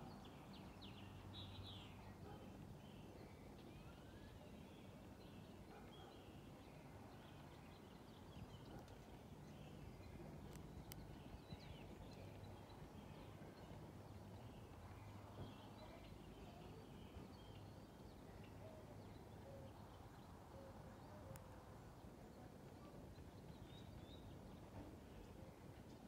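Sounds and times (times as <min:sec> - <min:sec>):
faint bird chirps: 0:00.0 - 0:21.6.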